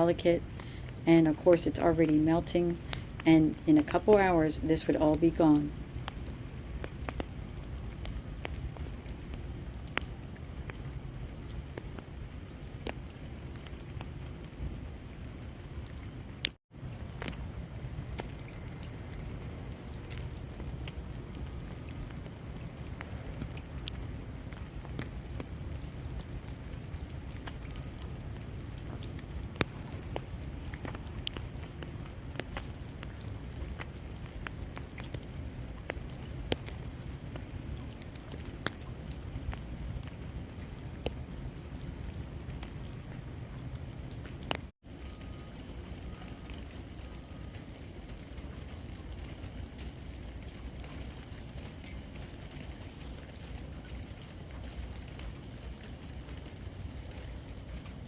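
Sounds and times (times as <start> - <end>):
meltwater dripping: 0.0 - 58.0.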